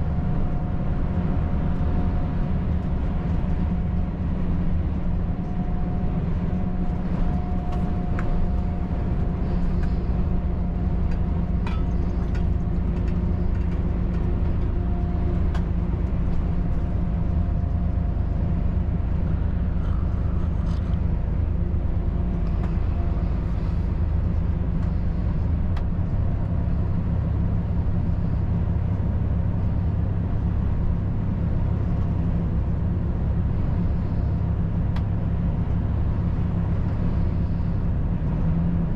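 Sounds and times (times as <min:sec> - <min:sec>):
diesel truck engine droning: 0:00.0 - 0:38.9
road and tyre noise: 0:00.0 - 0:38.9.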